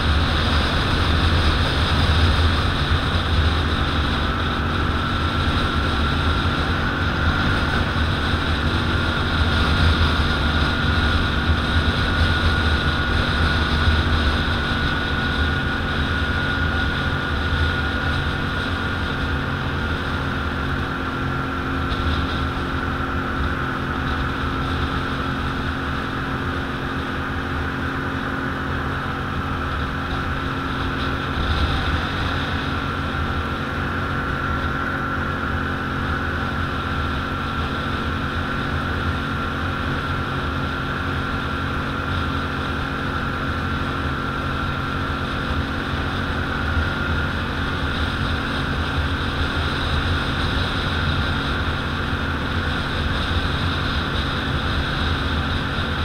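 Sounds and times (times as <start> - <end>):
atv engine running: 0.0 - 56.0
high whine: 0.0 - 56.0.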